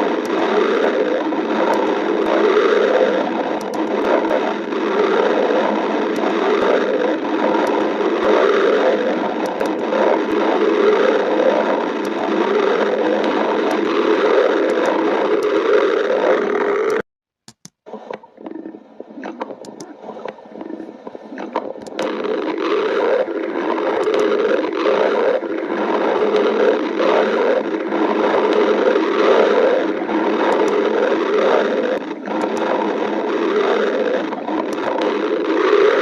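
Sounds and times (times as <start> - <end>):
badger stomach growling: 0.0 - 17.0, 17.9 - 36.0.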